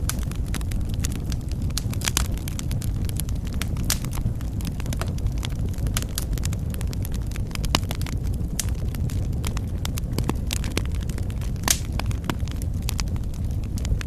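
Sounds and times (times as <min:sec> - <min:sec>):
fire crackling and popping: 0:00.0 - 0:14.0
wood fire flames rumbling: 0:00.0 - 0:14.0.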